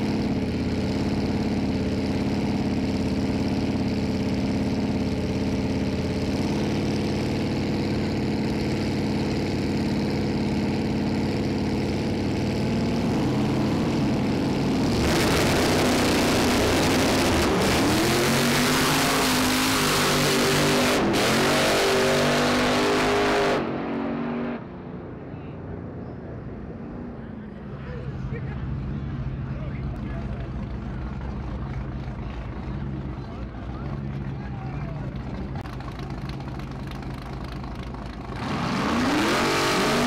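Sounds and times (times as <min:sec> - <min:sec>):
drag race engines idling and revving: 0:00.0 - 0:40.0
engines blasting and tyre noise: 0:00.0 - 0:40.0.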